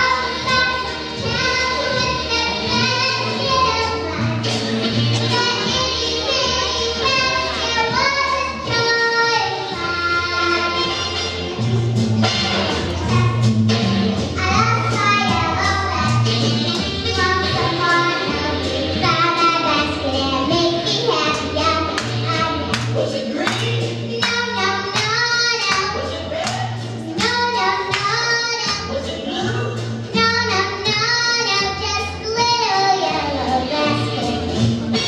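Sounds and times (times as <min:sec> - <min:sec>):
girl singing into a microphone: 0:00.0 - 0:04.6, 0:05.2 - 0:11.2, 0:14.4 - 0:26.3, 0:27.2 - 0:34.7
backing track with bass line: 0:00.0 - 0:35.0.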